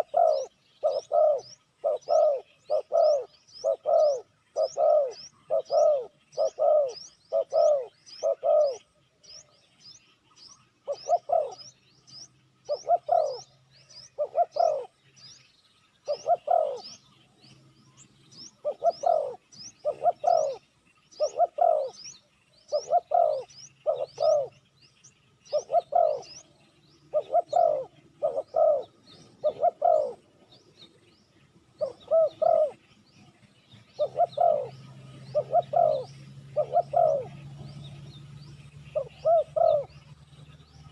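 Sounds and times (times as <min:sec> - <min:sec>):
dove cooing: 0:00.0 - 0:09.4, 0:10.6 - 0:15.3, 0:16.0 - 0:17.6, 0:18.3 - 0:24.7, 0:25.5 - 0:40.9
small bird chirping: 0:00.0 - 0:40.9.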